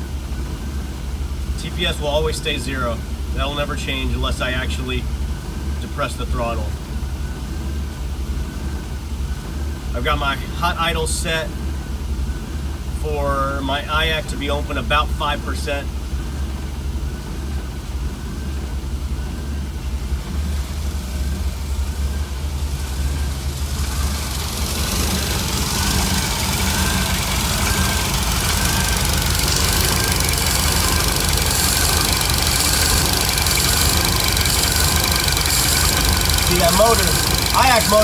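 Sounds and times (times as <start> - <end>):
car engine hunting idle: 0.0 - 38.0.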